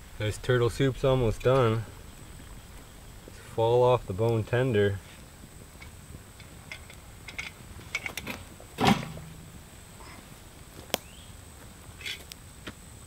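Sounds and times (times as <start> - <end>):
wood fire crackling: 0.0 - 12.6.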